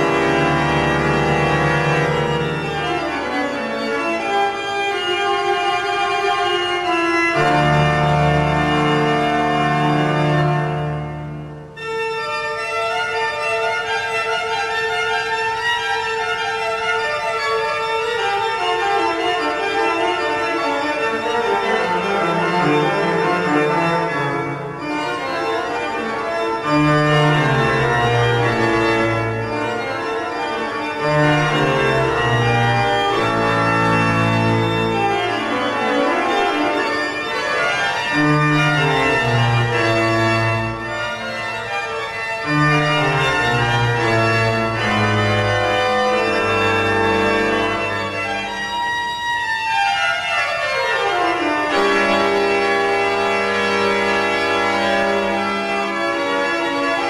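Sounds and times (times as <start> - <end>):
pipe organ playing held chords: 0.0 - 57.0.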